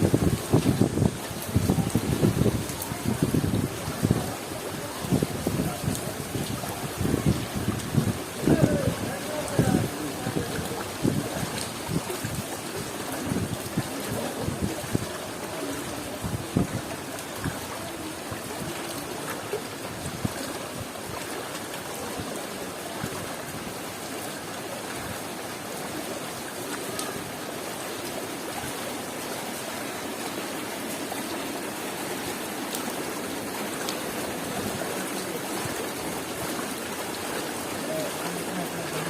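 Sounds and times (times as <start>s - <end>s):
heavy rain falling: 0.0s - 39.0s
running water: 0.0s - 39.0s.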